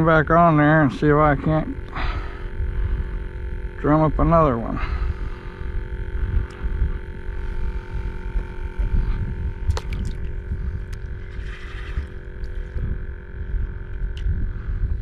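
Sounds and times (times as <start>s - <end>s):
faint electrical hum: 0.0s - 15.0s
gusty wind buffeting microphone: 0.0s - 15.0s.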